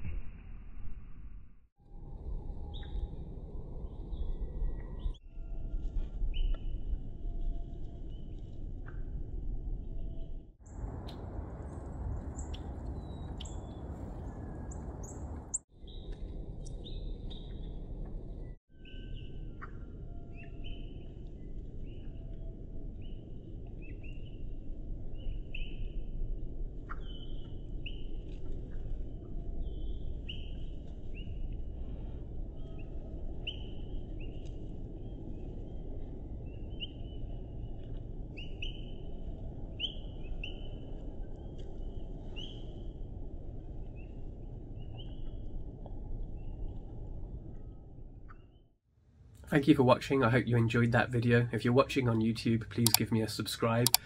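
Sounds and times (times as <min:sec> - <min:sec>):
low rumble of background noise: 0:01.8 - 0:54.0
slowed-down bird chirps: 0:01.9 - 0:48.7.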